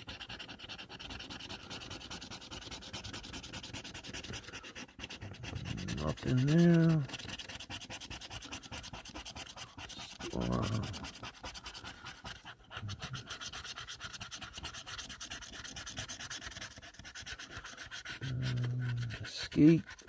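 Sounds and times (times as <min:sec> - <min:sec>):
scratch-off ticket being scratched: 0:00.0 - 0:20.0.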